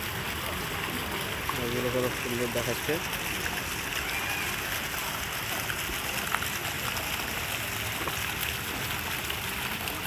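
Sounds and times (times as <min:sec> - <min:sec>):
fountain splashing into pool: 0:00.0 - 0:10.0.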